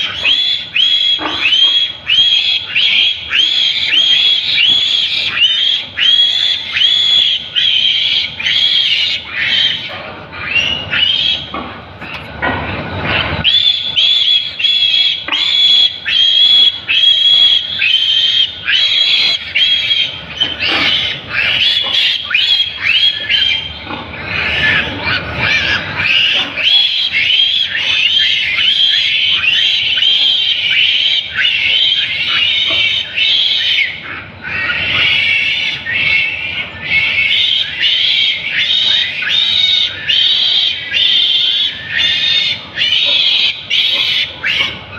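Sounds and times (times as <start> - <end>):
piglet squealing: 0.0 - 11.6, 13.0 - 44.9.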